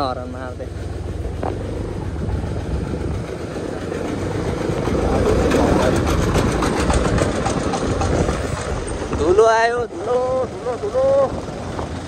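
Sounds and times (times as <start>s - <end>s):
motorcycle engine running: 0.0s - 12.0s
tractor engine chugging: 0.0s - 12.0s.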